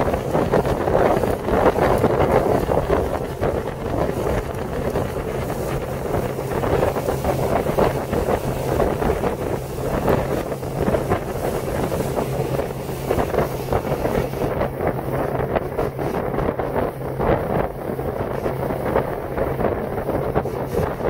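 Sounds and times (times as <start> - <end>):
boat engine drone: 0.0 - 21.0
wind buffeting microphone: 0.0 - 21.0.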